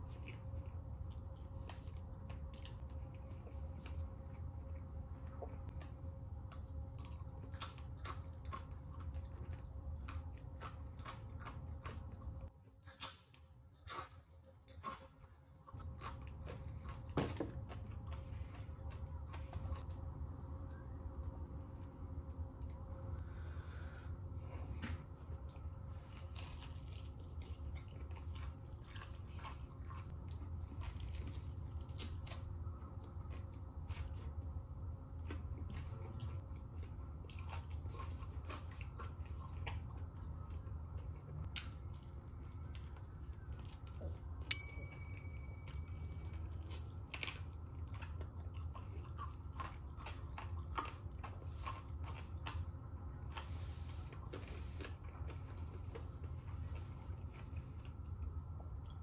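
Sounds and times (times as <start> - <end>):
crunchy chewing: 0.0 - 20.1, 25.3 - 44.2, 46.2 - 59.0
steady low hum: 0.0 - 59.0.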